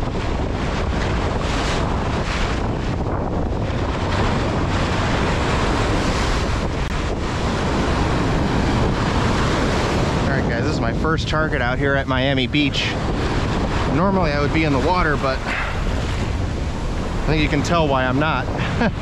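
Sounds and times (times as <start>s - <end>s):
surf washing in shallow water: 0.0s - 19.0s
wind buffeting microphone: 0.0s - 19.0s.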